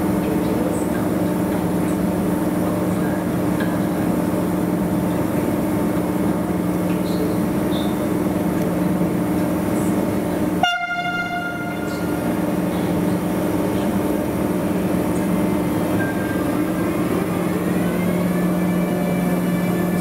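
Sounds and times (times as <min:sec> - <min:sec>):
locomotive low hum: 0:00.0 - 0:20.0.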